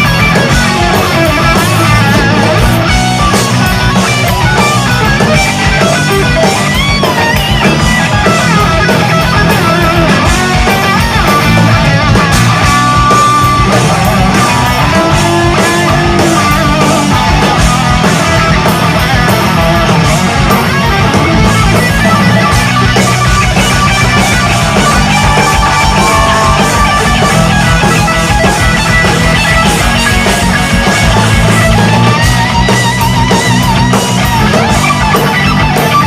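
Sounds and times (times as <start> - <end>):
distorted electric guitar solo: 0.0 - 36.0
heavy metal band playing: 0.0 - 36.0.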